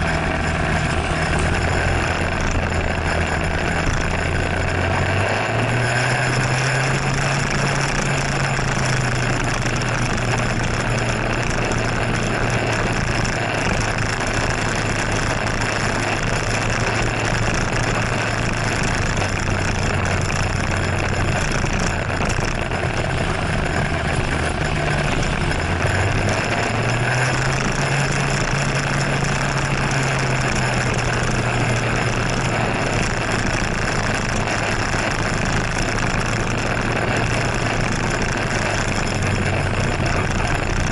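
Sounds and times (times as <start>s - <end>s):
scooter engine humming: 0.0s - 40.9s
wet road noise: 0.0s - 40.9s.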